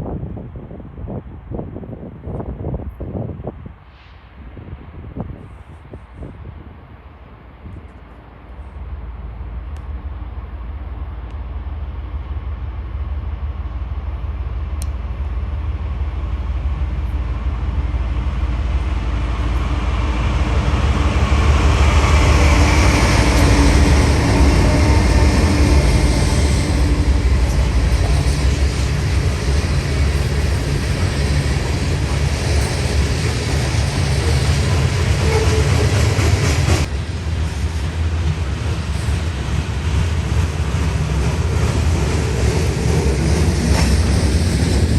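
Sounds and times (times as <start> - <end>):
diesel locomotive engine rumble: 0.0 - 44.9
train rail noise: 0.0 - 44.9.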